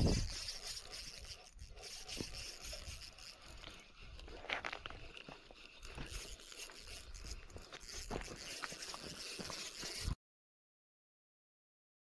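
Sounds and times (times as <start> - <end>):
spinning reel cranking: 0.0 - 10.2.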